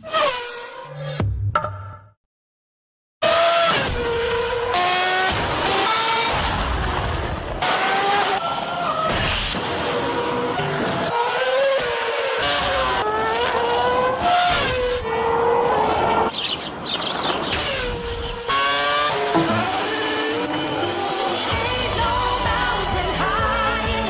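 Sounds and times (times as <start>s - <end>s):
racing car engines revving: 3.2s - 16.3s, 17.3s - 24.0s.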